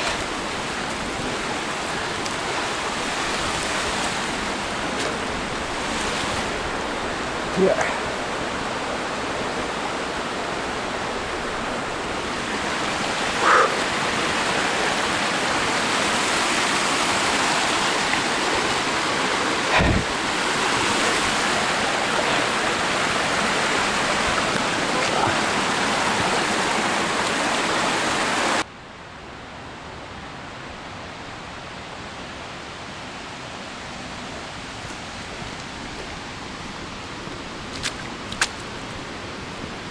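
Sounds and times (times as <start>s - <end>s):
water rushing over rocks: 0.0s - 28.7s, 31.1s - 39.9s.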